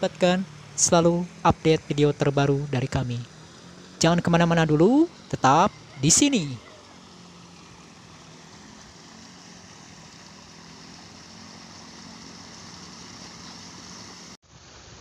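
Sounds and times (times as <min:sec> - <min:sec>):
faint low engine hum: 0:00.0 - 0:14.4
water rushing over a weir: 0:00.0 - 0:15.0.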